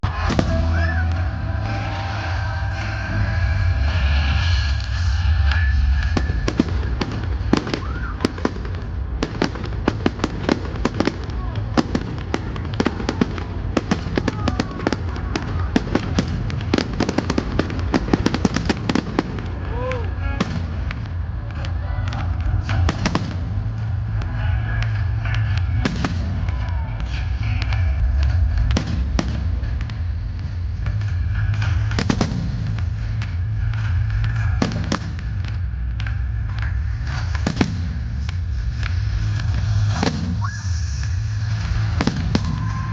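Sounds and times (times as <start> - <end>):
faint fireworks whistles: 0.0 - 42.9
fireworks bangs and pops: 0.0 - 42.9
low rumble: 0.0 - 42.9.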